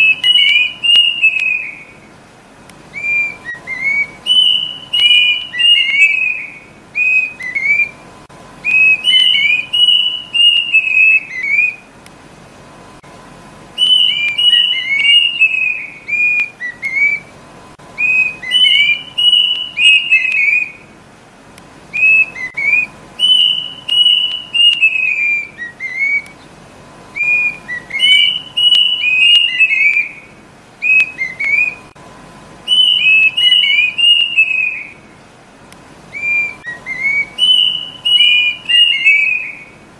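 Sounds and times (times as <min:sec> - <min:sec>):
cuckoo whistled song: 0:00.0 - 0:02.1, 0:02.9 - 0:11.9, 0:13.7 - 0:21.0, 0:21.9 - 0:26.5, 0:27.1 - 0:32.0, 0:32.6 - 0:35.2, 0:36.1 - 0:39.8.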